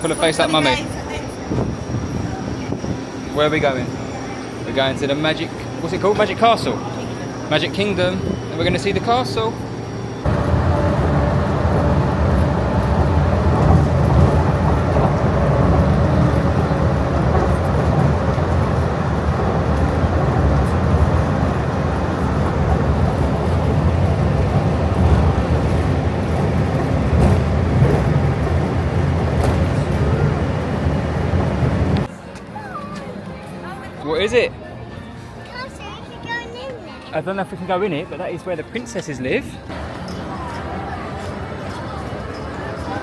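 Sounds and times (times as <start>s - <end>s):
train rumbling in motion: 0.0s - 33.6s, 39.6s - 43.0s.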